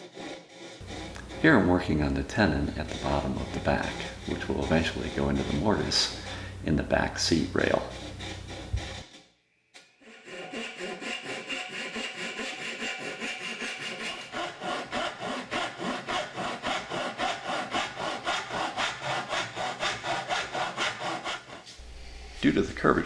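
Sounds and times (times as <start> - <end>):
hand saw cutting wood: 0.0 - 9.2, 10.0 - 23.0.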